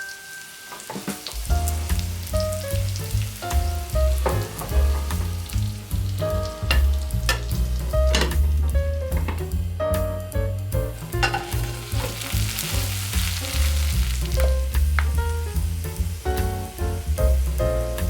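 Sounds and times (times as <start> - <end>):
food sizzling in oil: 0.0 - 18.0
music with pulsing bass: 1.5 - 11.8, 12.8 - 18.0.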